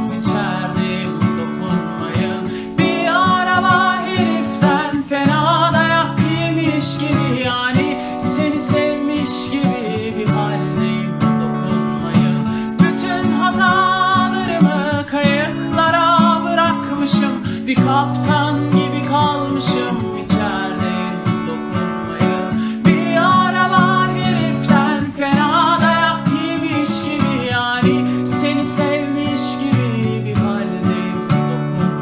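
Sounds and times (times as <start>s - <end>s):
instrumental acoustic guitar song: 0.0s - 32.0s.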